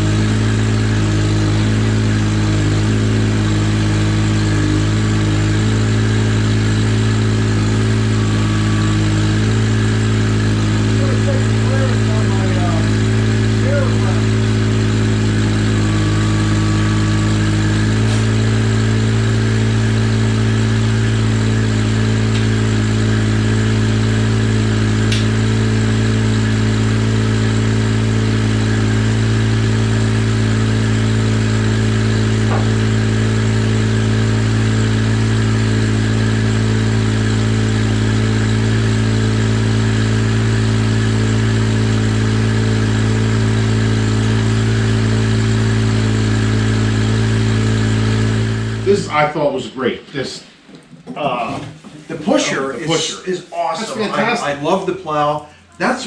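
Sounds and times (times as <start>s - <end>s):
tractor engine humming: 0.0s - 49.0s.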